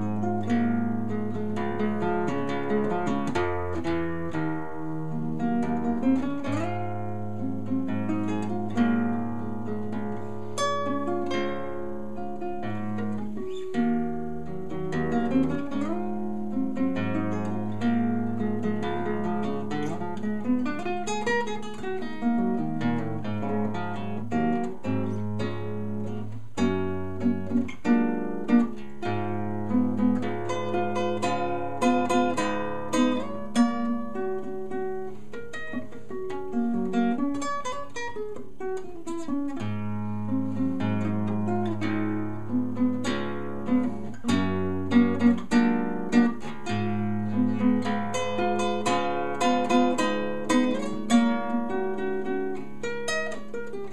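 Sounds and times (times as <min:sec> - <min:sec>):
acoustic guitar playing: 0:00.0 - 0:53.9.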